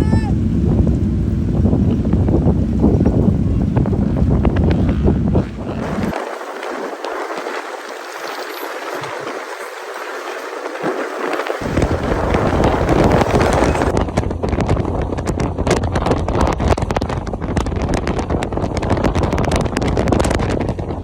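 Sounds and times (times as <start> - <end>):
motorcycle road and engine rumble: 0.0 - 21.0
wind buffeting microphone: 0.0 - 21.0.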